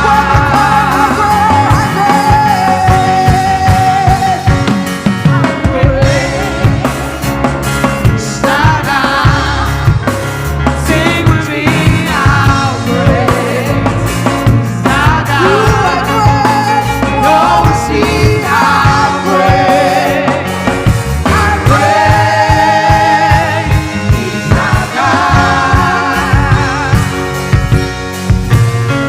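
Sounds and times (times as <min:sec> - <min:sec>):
person singing: 0:00.0 - 0:07.4, 0:10.8 - 0:27.6
drum kit: 0:00.0 - 0:29.0
worship band playing: 0:00.0 - 0:29.0.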